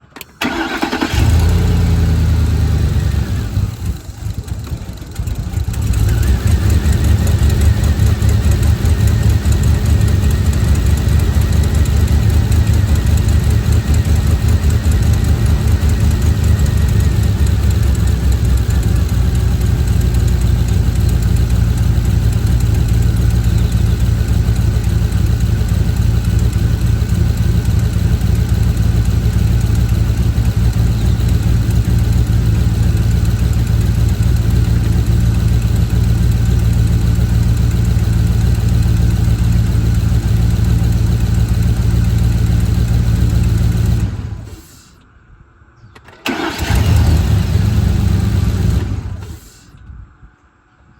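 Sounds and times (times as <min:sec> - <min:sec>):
truck engine idling roughly: 0:03.4 - 0:44.9.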